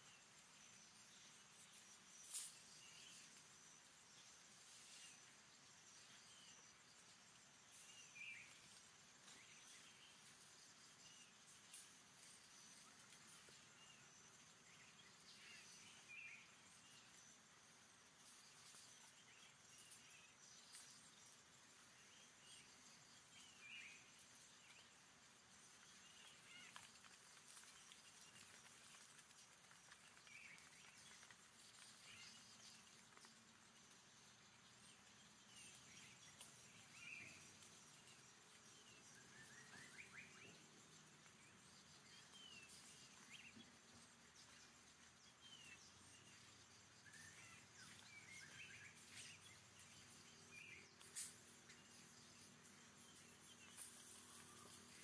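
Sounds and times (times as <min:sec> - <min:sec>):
high insect hiss: 0:00.0 - 0:55.0.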